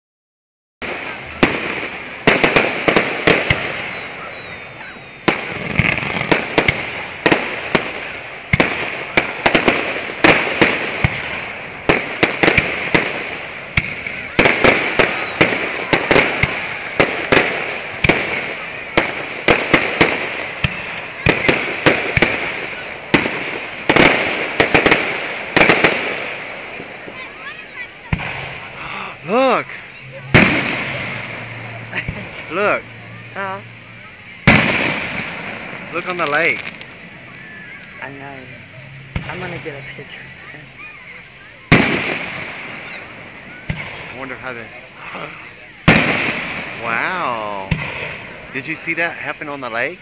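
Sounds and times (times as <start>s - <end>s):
fireworks bangs with echo: 0.8s - 50.0s.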